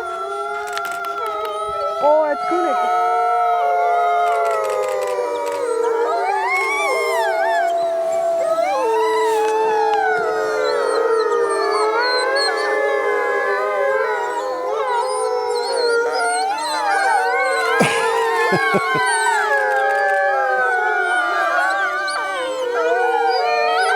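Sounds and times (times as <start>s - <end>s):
wolves howling in chorus: 0.0s - 23.9s.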